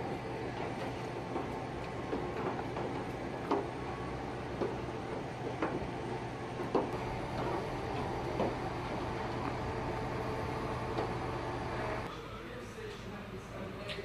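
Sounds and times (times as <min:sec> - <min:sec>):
footsteps on metal gangway: 0:00.0 - 0:12.1
steady low hum: 0:00.0 - 0:13.8.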